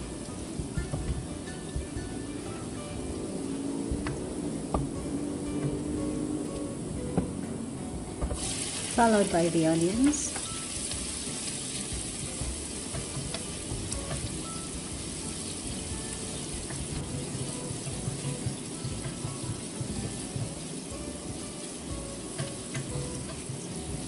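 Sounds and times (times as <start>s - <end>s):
onions sizzling in oil: 0.0s - 6.7s, 8.2s - 24.0s.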